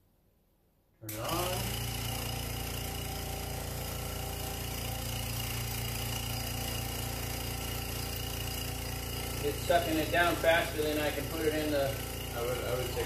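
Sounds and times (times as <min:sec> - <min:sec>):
vacuum pump humming: 0:01.0 - 0:13.0.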